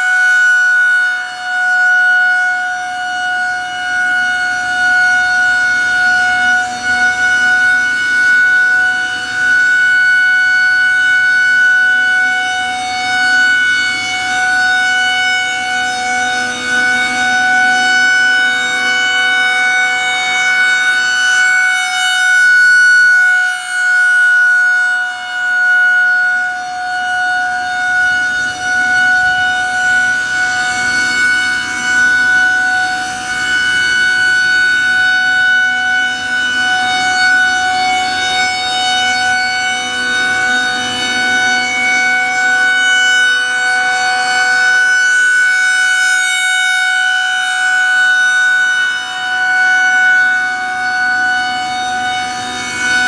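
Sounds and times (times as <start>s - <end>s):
warning siren steady tone: 0.0s - 53.0s.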